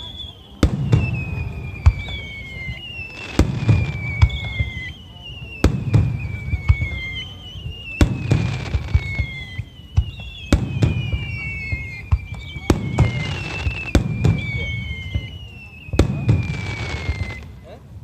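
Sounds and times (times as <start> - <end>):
fireworks bursting bangs: 0.0 - 17.6.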